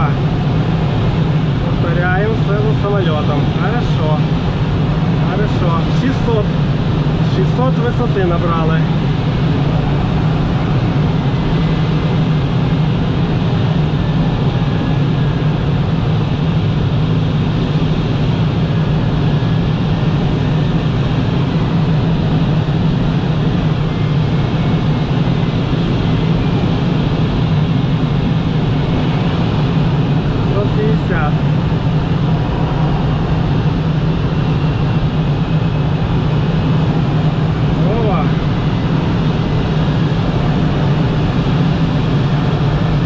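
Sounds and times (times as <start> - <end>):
low steady drone: 0.0 - 43.0
rush of air in cockpit: 0.0 - 43.0.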